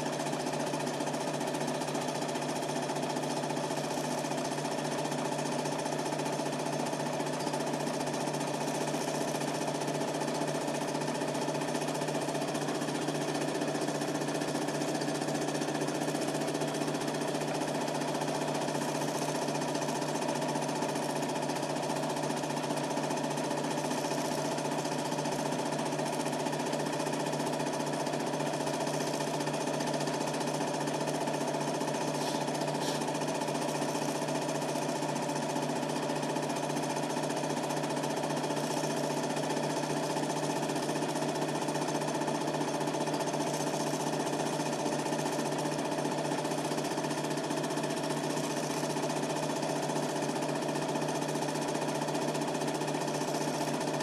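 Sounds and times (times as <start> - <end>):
film projector mechanical chatter: 0.0 - 54.0
projector motor hum: 0.0 - 54.0.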